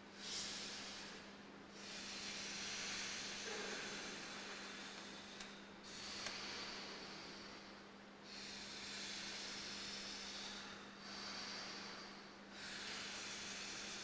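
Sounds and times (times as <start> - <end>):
faint steady hum: 0.0 - 14.0
forceful hissing breaths: 0.0 - 14.0.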